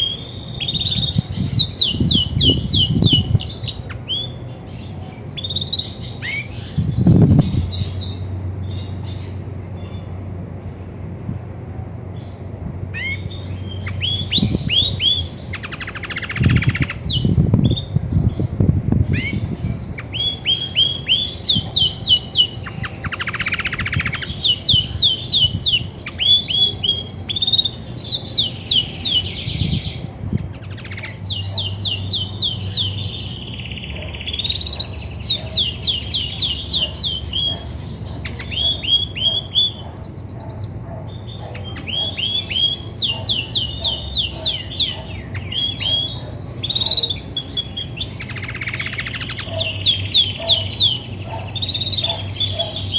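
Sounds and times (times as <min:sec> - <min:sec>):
canary singing: 0:00.0 - 0:10.6, 0:12.0 - 0:52.9.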